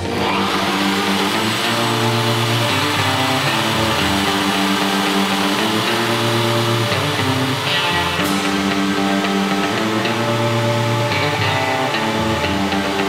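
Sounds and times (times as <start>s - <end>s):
guitar music: 0.0s - 13.0s
router carving wood: 0.0s - 13.0s.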